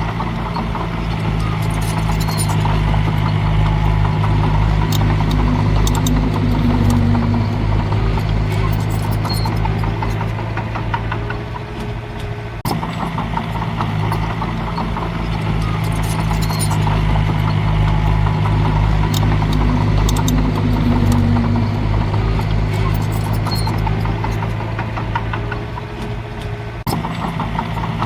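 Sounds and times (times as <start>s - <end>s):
heavy diesel engine running: 0.0s - 28.0s
metallic rattling and clanking: 0.0s - 28.0s.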